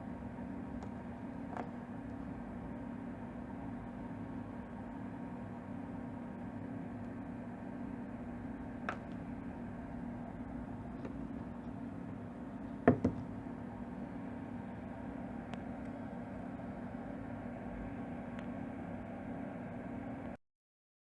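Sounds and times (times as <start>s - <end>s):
speaker hum with hiss: 0.0s - 20.4s.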